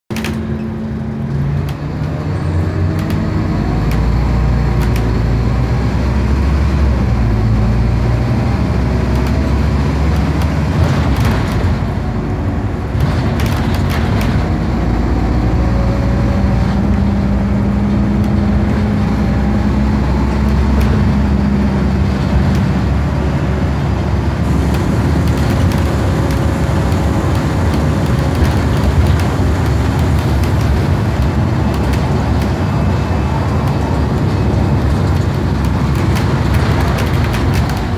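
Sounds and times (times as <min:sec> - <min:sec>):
bus engine pulling: 0:00.1 - 0:37.9
road noise rumble: 0:00.1 - 0:37.9.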